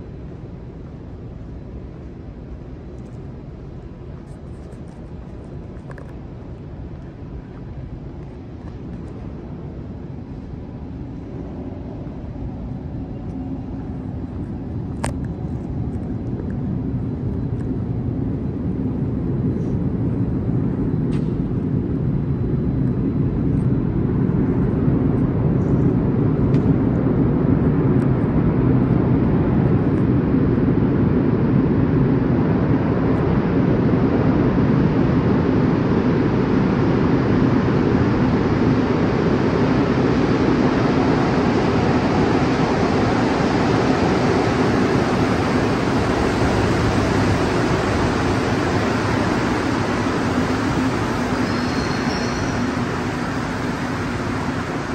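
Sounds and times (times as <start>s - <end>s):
train rumbling in tunnel: 0.0s - 54.9s.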